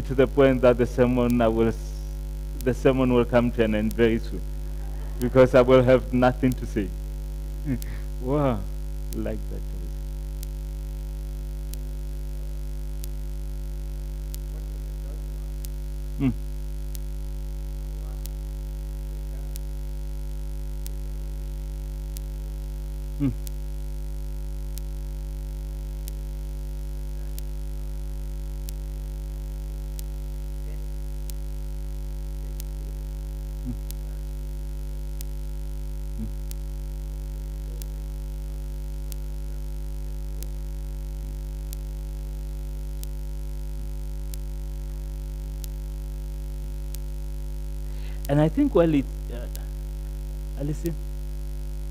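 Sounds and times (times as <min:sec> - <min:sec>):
electrical mains hum: 0:00.0 - 0:51.9.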